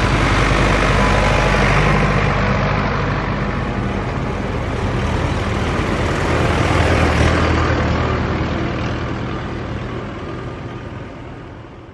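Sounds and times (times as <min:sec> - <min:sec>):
tractor engine driving past: 0:00.0 - 0:11.9.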